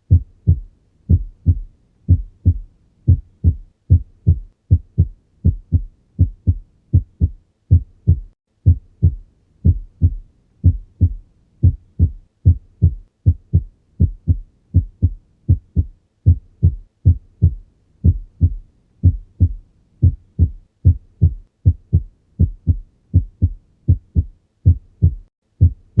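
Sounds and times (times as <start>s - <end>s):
heartbeat lub-dub: 0.0s - 26.0s.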